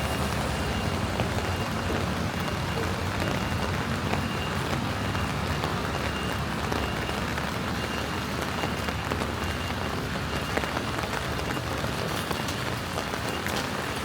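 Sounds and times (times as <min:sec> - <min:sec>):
rain falling on street: 0:00.0 - 0:14.0.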